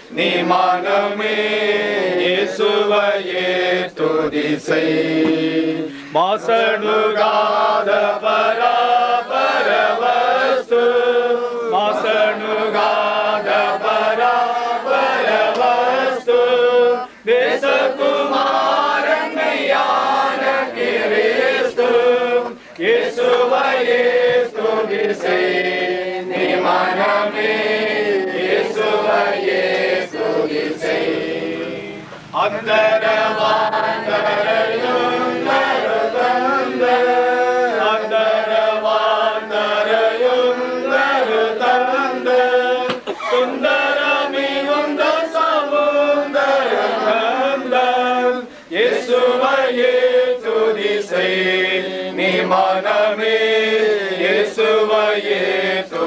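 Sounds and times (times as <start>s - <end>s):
group singing a hymn: 0.0s - 56.0s.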